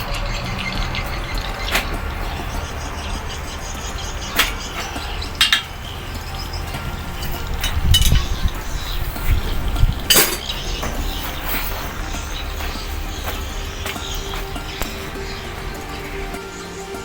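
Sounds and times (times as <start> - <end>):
sharp metallic clinks: 0.0 - 17.0.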